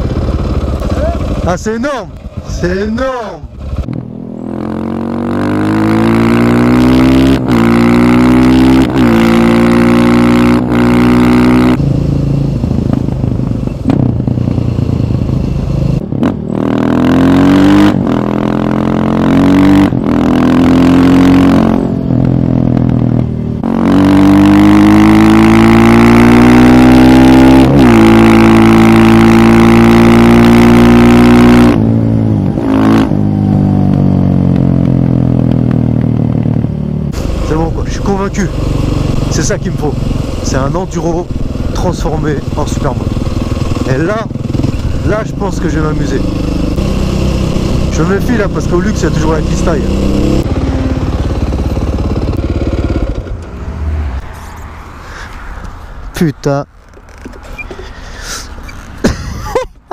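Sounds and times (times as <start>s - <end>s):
motorcycle engine revving through gears: 0.0s - 2.8s, 3.4s - 55.7s, 56.7s - 59.2s.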